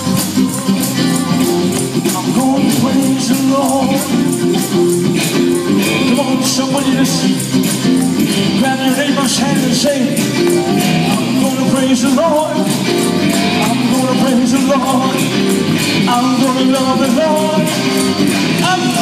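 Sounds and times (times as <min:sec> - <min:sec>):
drums with steady beat: 0:00.0 - 0:19.0
electric guitars: 0:00.0 - 0:19.0
man singing: 0:00.0 - 0:19.0.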